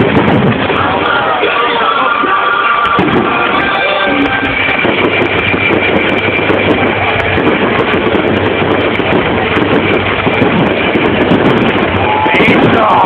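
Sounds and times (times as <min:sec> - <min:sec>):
fireworks crackling: 0:00.0 - 0:13.0
fireworks rumbling barrage: 0:00.0 - 0:13.0.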